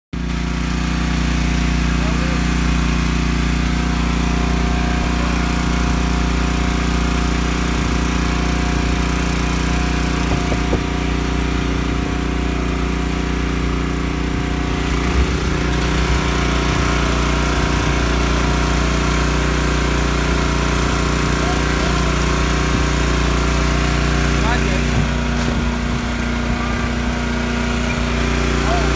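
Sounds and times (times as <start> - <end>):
boat motor running: 0.2 - 28.9.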